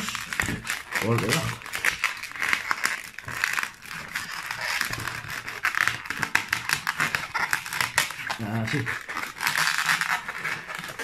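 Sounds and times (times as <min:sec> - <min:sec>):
balloon rubber rubbing and clicking: 0:00.0 - 0:11.0.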